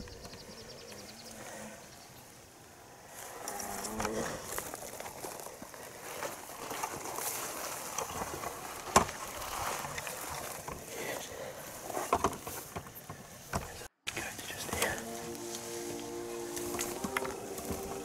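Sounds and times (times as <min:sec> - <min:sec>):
rustling and crackling of scrub: 0:03.1 - 0:18.0.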